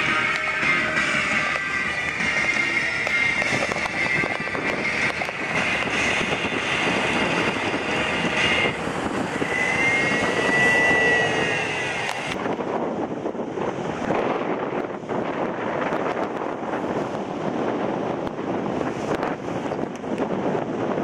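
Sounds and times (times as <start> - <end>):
high whine of passing vehicle: 0.0 - 21.0
highway traffic rushing: 0.0 - 21.0
wind: 0.0 - 21.0.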